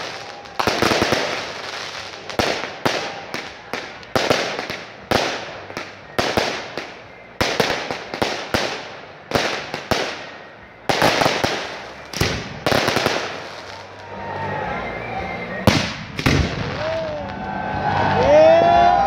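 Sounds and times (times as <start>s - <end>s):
fireworks bangs: 0.0s - 14.2s, 15.6s - 18.1s.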